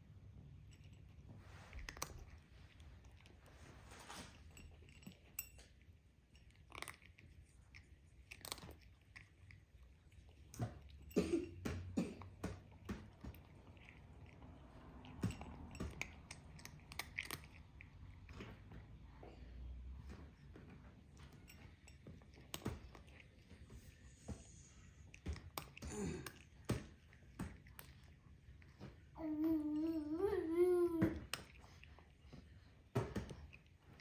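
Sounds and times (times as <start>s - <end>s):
chewing and crunching waffle: 0.0s - 29.8s, 31.2s - 34.0s.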